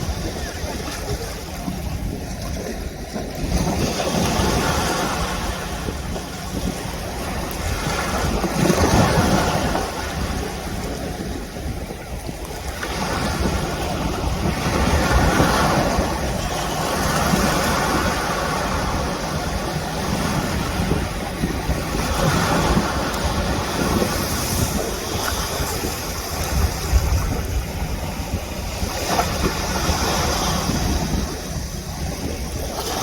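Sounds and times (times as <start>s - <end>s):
rushing water: 0.0s - 33.0s
wind noise: 0.0s - 33.0s.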